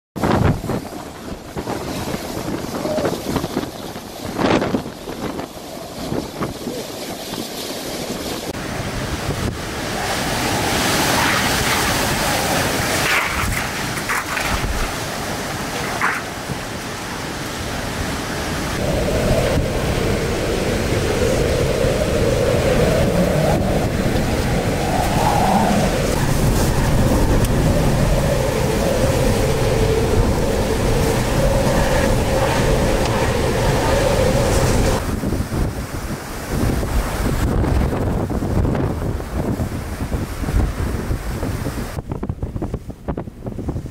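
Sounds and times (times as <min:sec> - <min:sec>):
driving rain: 0:00.2 - 0:43.3
strong wind howling: 0:00.2 - 0:43.9
wind buffeting microphone: 0:00.2 - 0:43.9.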